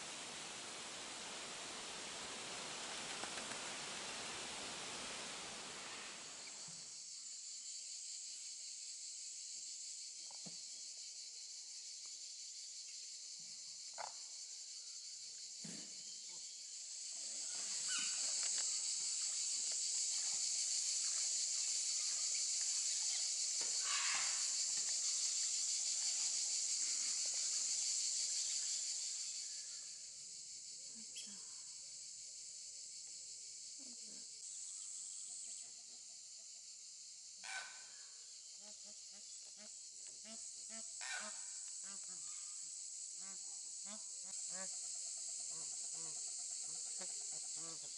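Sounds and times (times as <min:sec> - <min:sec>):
high-pitched hiss: 0:00.0 - 0:47.9.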